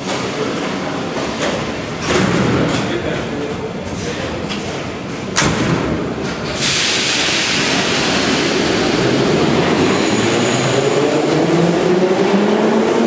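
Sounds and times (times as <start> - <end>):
train wheel and running noise: 0.0 - 13.0.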